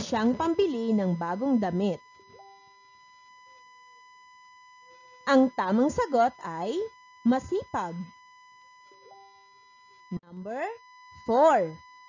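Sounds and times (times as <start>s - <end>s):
high-pitched electrical whine: 0.0s - 12.0s.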